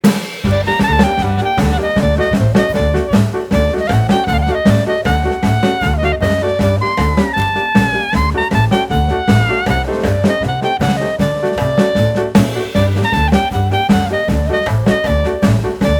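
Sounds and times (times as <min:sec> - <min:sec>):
swing jazz with horns: 0:00.0 - 0:15.9.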